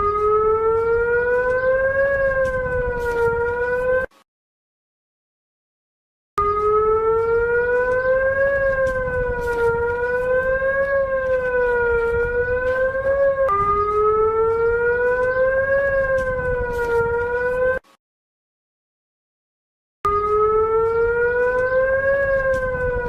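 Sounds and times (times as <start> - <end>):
wailing alarm siren: 0.0 - 4.2, 6.4 - 17.9, 20.1 - 23.0.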